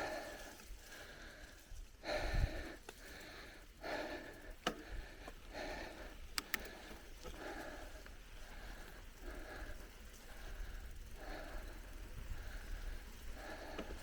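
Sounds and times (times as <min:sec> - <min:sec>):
bike clicks and rattles: 0:00.0 - 0:14.0
cyclist breathing hard: 0:00.0 - 0:14.0.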